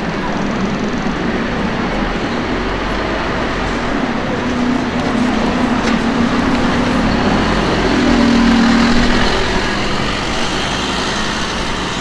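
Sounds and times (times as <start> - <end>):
bus diesel engine passing: 0.0 - 12.0.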